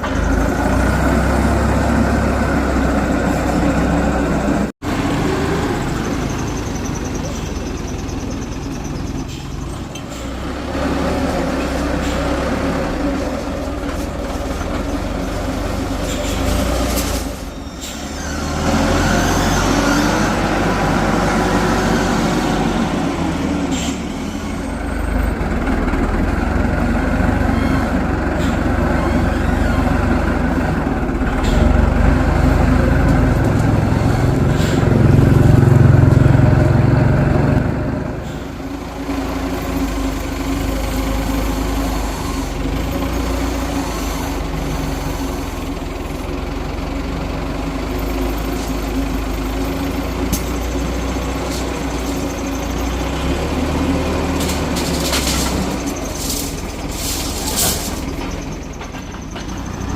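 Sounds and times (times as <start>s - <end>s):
heavy machine diesel engine: 0.0s - 59.9s.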